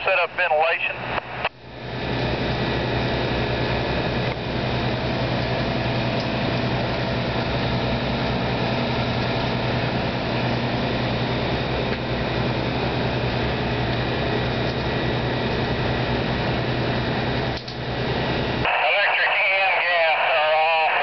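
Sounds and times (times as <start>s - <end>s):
large engine idling: 0.0s - 21.0s.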